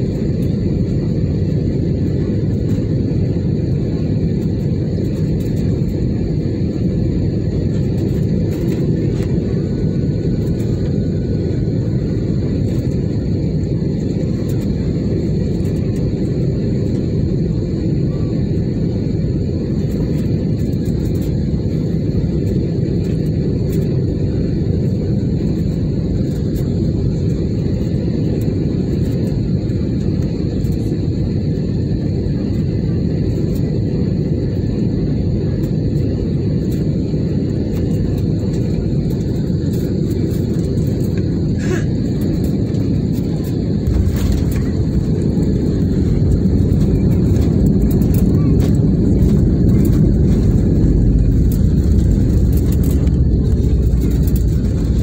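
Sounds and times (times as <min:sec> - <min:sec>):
low rumble of jet engines and airflow: 0:00.0 - 0:55.0.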